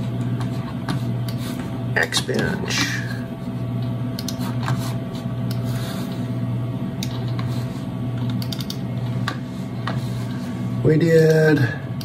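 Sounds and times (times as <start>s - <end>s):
computer humming: 0.0s - 12.0s.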